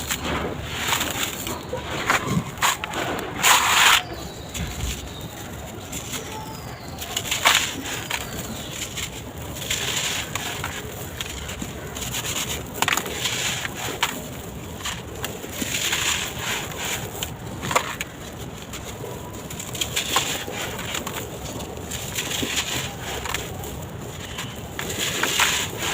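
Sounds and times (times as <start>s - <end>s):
concrete blocks crumbling: 0.0s - 25.9s.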